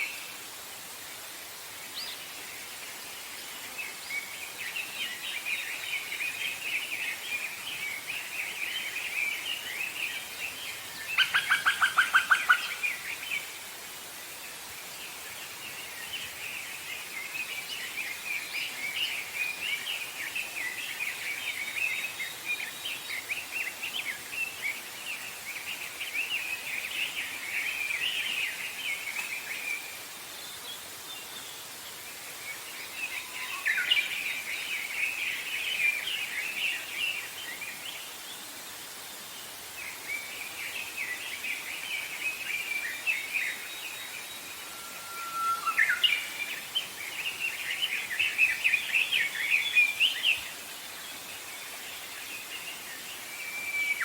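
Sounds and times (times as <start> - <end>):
faint outdoor hiss: 0.0 - 54.0
songbirds singing: 1.4 - 54.0.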